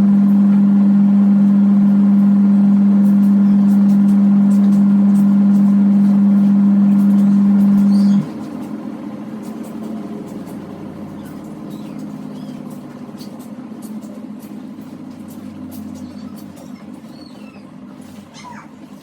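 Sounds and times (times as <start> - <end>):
washing machine motor hum: 0.0 - 19.0
wavering mechanical hum: 0.0 - 19.0.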